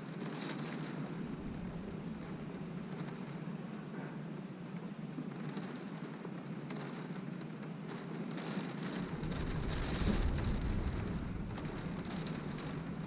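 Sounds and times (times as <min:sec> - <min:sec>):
deep rumble of wind: 0:00.0 - 0:13.0
rain beating on a window: 0:00.0 - 0:13.0.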